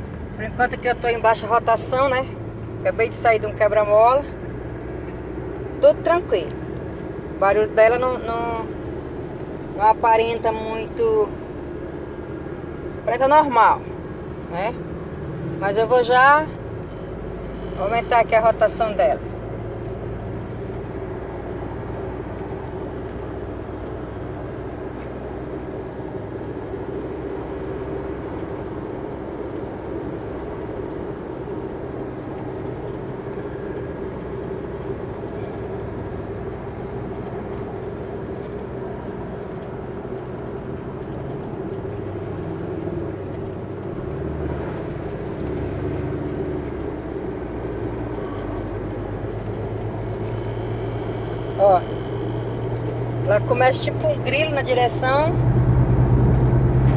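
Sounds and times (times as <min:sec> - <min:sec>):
pickup engine droning: 0:00.0 - 0:56.9
road noise: 0:00.0 - 0:56.9.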